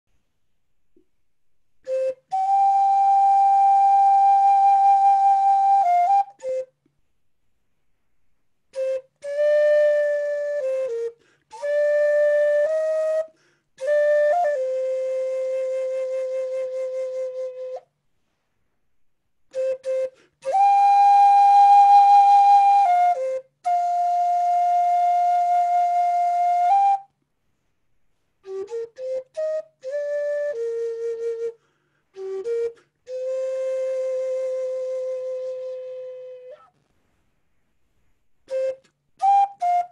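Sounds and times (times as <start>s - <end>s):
wooden flute playing: 1.8s - 7.0s, 8.7s - 18.4s, 19.5s - 37.2s, 38.4s - 39.9s.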